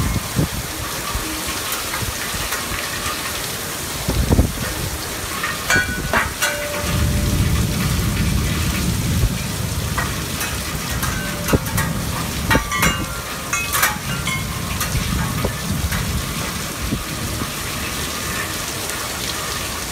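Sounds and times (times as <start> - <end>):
wind chimes pinging: 0.0 - 18.9
heavy rain pouring: 0.0 - 19.9
low rumble of wind: 0.0 - 19.9.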